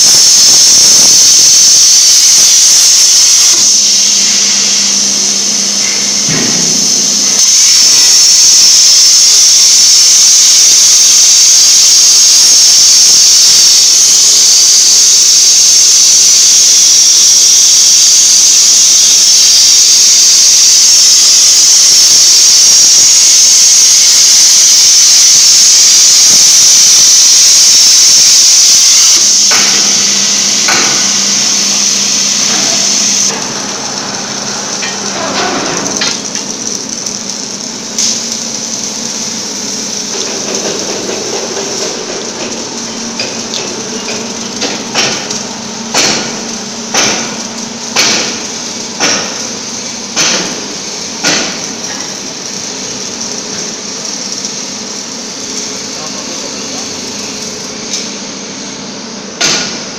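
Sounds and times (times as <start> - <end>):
plasma cutter hissing: 0.0 - 59.9.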